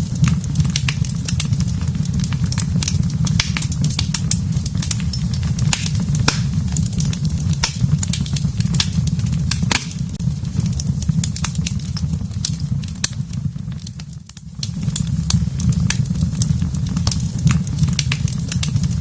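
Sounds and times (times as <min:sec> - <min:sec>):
fire crackling in a fireplace: 0:00.0 - 0:19.0.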